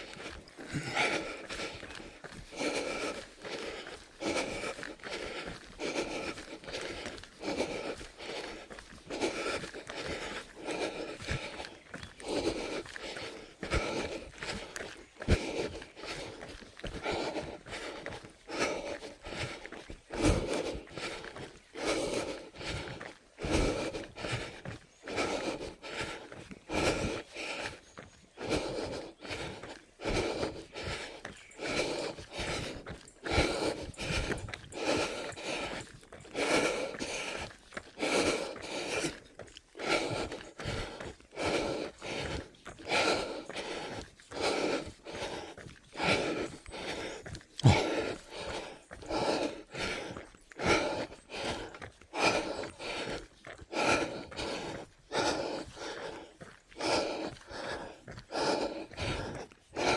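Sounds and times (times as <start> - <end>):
footsteps on trail: 0.0 - 59.9
runner panting heavily: 0.0 - 59.9.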